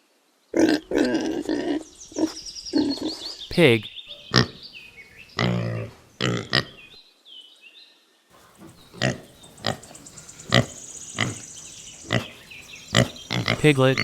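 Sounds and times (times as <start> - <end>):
pig grunting: 0.6 - 3.4, 4.1 - 6.9, 8.3 - 14.0.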